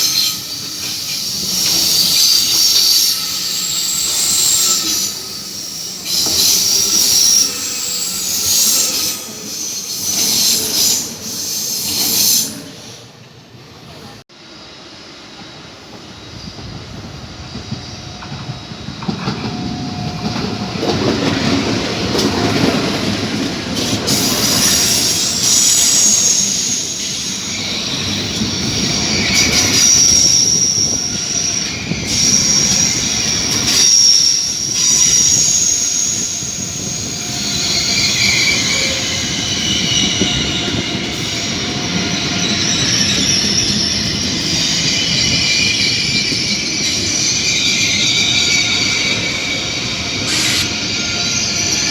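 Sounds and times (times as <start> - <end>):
train rumbling on tracks: 0.0 - 51.9
wheels squealing on rails: 0.0 - 51.9.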